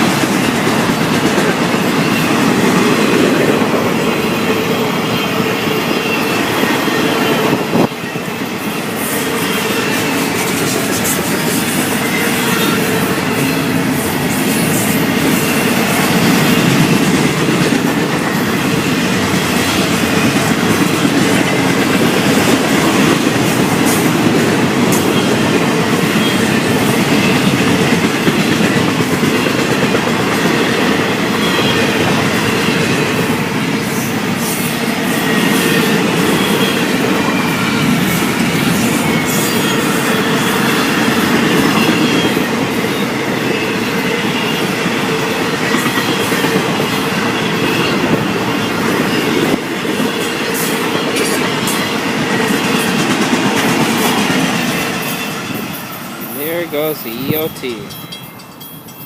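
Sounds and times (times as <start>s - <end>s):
freight train cars rolling past: 0.0s - 59.0s
train wheel squeal: 0.0s - 59.0s.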